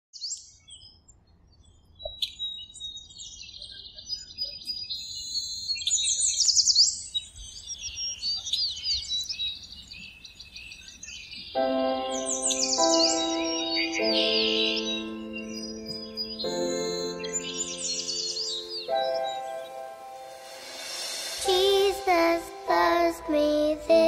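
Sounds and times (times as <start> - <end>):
songbirds singing: 0.2 - 20.3.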